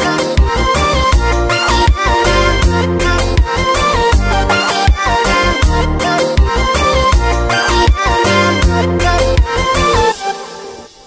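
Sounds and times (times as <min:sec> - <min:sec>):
afrobeat instrumental music: 0:00.0 - 0:11.0.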